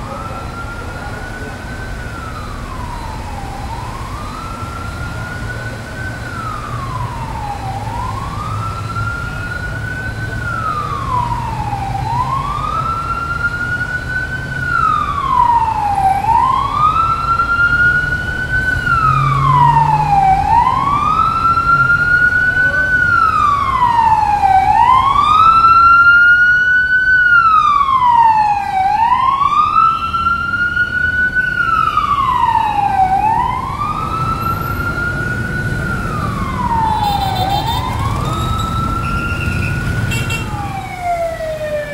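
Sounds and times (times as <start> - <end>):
emergency vehicle siren wailing: 0.0 - 41.9
traffic on a wet road: 0.0 - 41.9.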